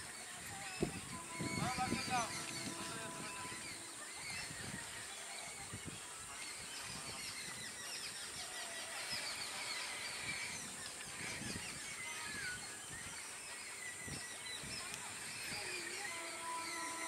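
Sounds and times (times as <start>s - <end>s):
birds chirping: 0.0s - 17.0s
steady high hiss: 0.0s - 17.0s.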